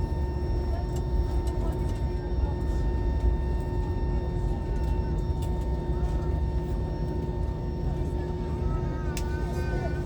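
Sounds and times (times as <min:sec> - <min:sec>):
airliner cabin rumble: 0:00.0 - 0:10.0
engine and cabin air hum: 0:00.0 - 0:10.0.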